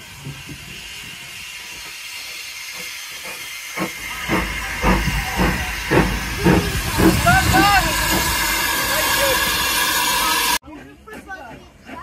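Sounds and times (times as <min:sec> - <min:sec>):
locomotive steam hissing: 0:00.0 - 0:12.0.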